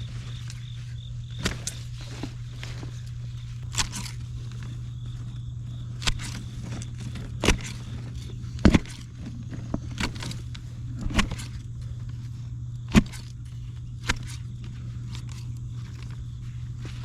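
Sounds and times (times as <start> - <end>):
hedge clippers snipping stems: 1.3 - 17.0.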